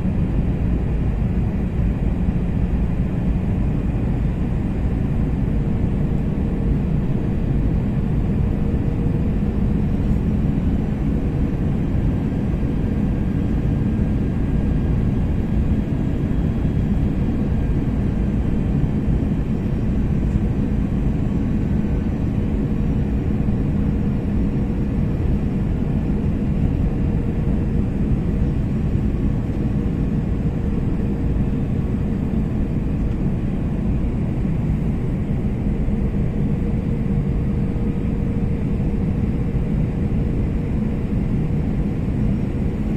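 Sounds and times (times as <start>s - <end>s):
aircraft engines rumbling: 0.0s - 42.9s.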